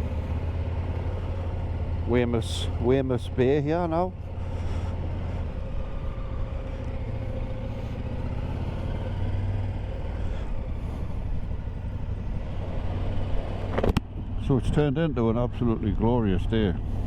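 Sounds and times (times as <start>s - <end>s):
motorcycle engine running: 0.0s - 17.0s
road and wind noise: 0.0s - 17.0s.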